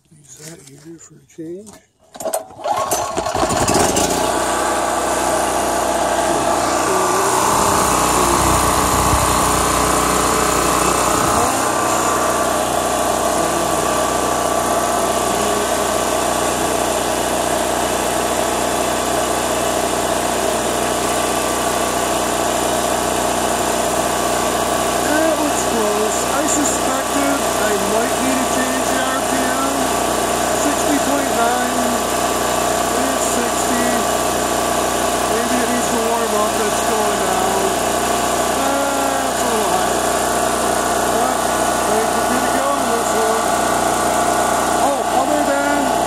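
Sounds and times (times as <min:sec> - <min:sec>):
generator engine running: 0:00.0 - 0:46.0.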